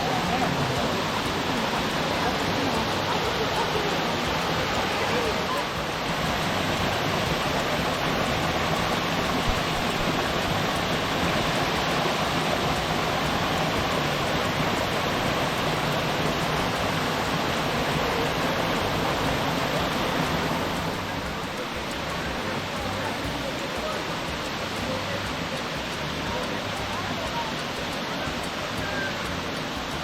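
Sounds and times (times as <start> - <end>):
water cascading over rocks: 0.0 - 30.0.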